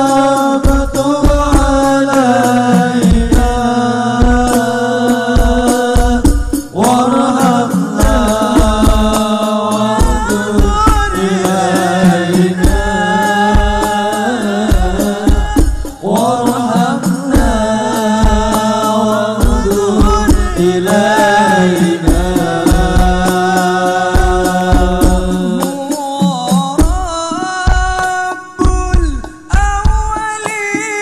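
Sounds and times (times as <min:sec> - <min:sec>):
frame drums beating: 0:00.0 - 0:31.0
voices singing devotional melody: 0:00.0 - 0:31.0.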